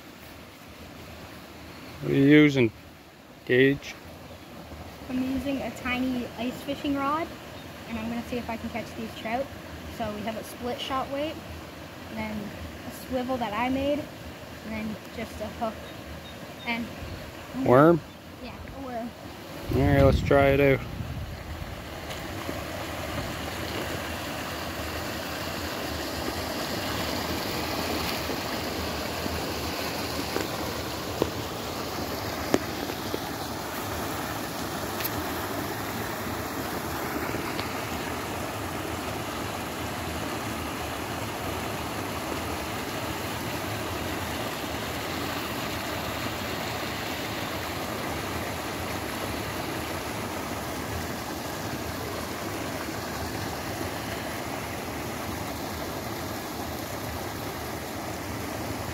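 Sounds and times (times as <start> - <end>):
water rushing over spillway: 0.0 - 58.9.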